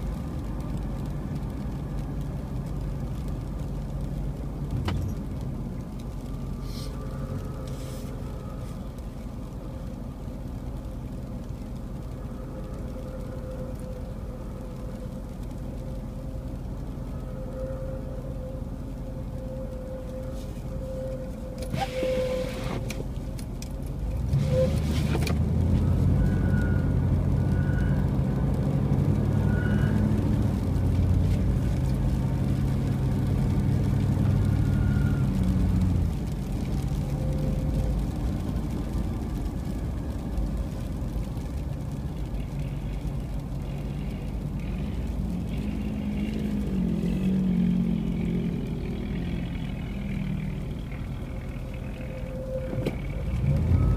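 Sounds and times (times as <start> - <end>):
car engine: 0.0 - 53.9
road noise: 0.0 - 53.9.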